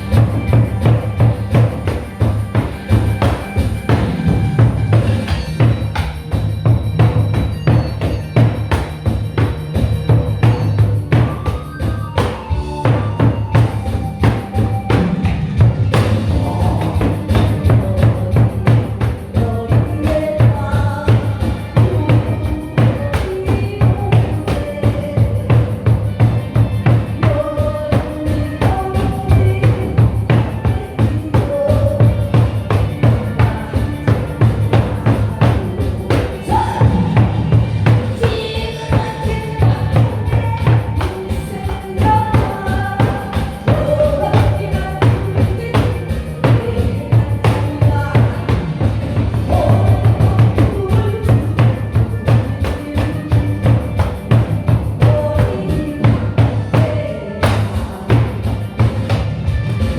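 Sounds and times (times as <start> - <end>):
backing track with drum beat: 0.0 - 59.9
hourglass drum fast rhythm: 0.0 - 59.9.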